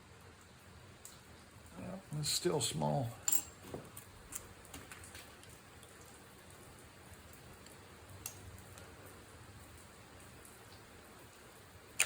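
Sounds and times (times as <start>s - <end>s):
quiet steady hiss: 0.0s - 12.0s.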